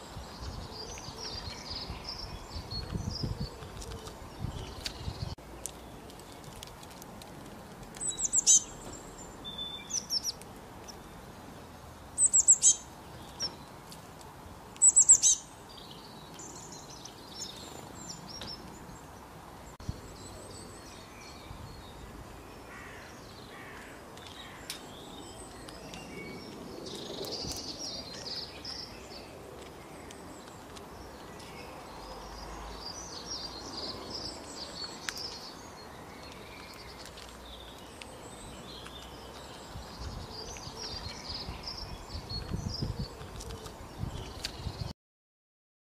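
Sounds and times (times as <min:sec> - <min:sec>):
songbirds calling and singing: 0:00.0 - 0:44.9.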